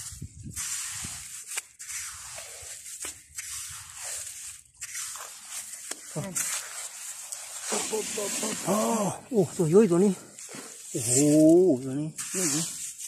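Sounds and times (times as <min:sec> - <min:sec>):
blade scraping wet sand: 0:00.0 - 0:13.0.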